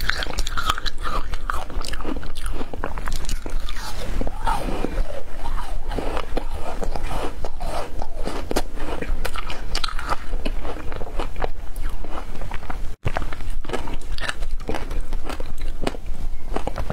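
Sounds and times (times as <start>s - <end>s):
crunching and chewing ice: 0.0s - 16.9s.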